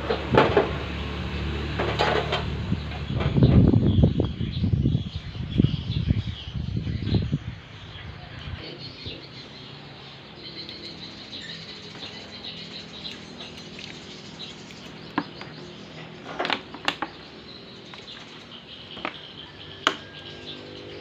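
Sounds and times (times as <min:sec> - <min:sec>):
small birds chirping: 0:01.4 - 0:21.0.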